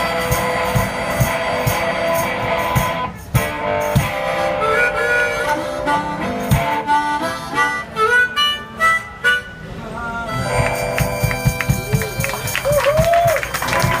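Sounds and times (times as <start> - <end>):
harmonica melody: 0.0 - 12.6
acoustic guitar: 0.0 - 12.8.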